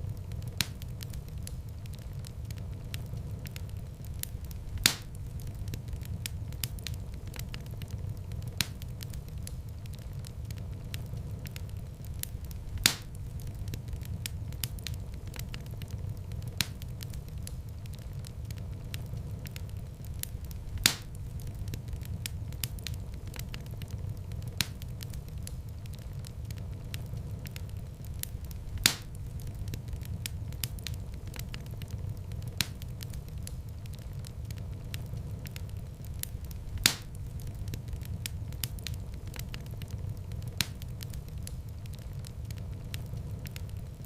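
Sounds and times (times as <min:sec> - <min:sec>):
loud pops of fire: 0:00.0 - 0:44.0
low rumble of flames: 0:00.0 - 0:44.0
wood fire crackling: 0:00.0 - 0:44.0.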